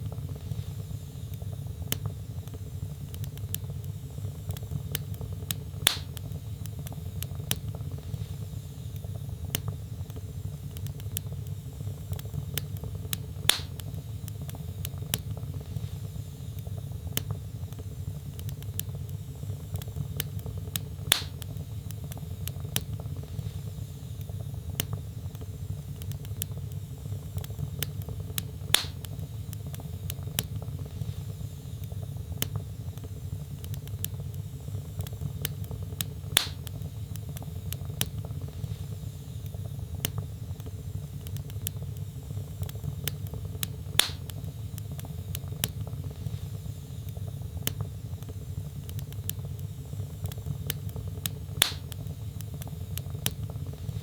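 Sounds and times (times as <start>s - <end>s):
low rumble of flames: 0.0s - 54.0s
sharp pops of burning logs: 0.0s - 54.0s
wood fire crackling: 0.0s - 54.0s.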